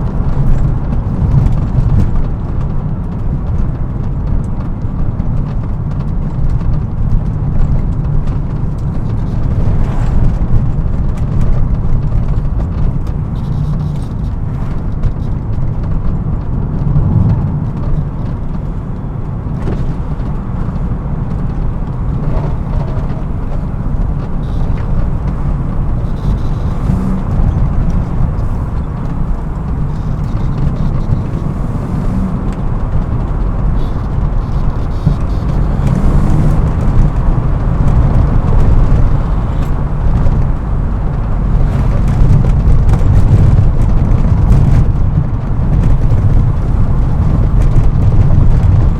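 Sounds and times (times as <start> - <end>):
car engine under steady throttle: 0.0 - 48.9
heavy low road noise: 0.0 - 48.9.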